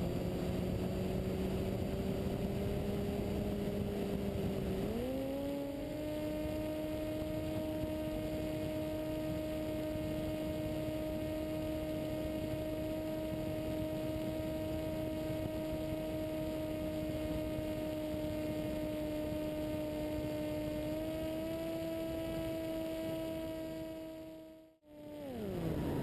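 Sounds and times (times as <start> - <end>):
model plane motor humming: 0.0 - 26.0.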